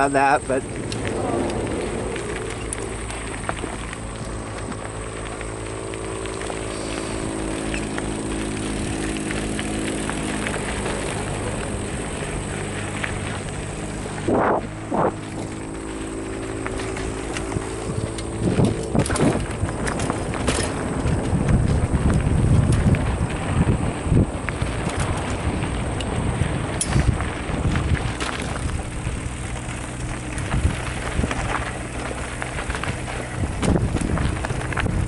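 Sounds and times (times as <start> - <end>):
bike tyres rolling on gravel: 0.0 - 35.0
low hum: 0.0 - 35.0
wind noise: 0.0 - 35.0.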